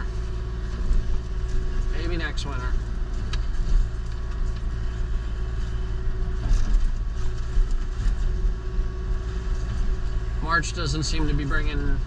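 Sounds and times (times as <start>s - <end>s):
excavator engine drone: 0.0s - 12.0s
hydraulic hum: 0.0s - 12.0s.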